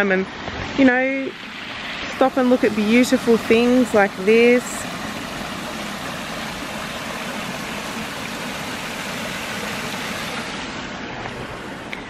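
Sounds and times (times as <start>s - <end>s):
waterfall over rocks: 0.2s - 12.0s.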